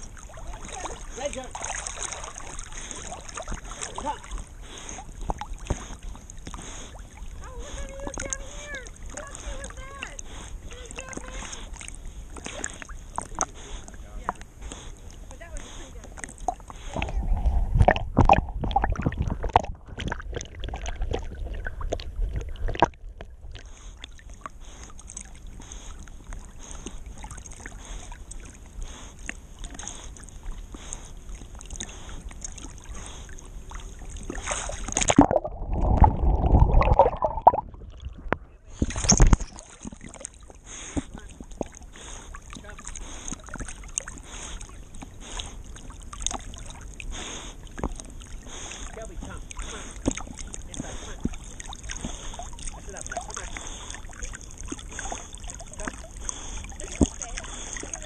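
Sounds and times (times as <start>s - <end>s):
dog paddling splashes: 0.0s - 58.0s
dull water rush: 0.0s - 58.0s
water sloshing and splashing: 0.0s - 58.0s.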